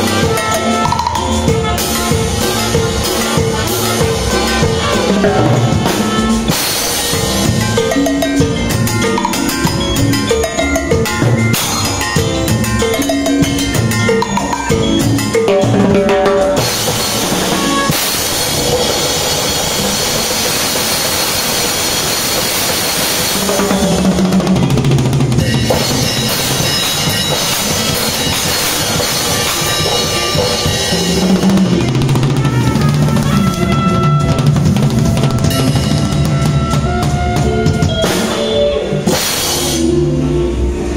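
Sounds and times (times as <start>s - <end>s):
bass line: 0.0s - 40.9s
drum kit playing: 0.0s - 40.9s.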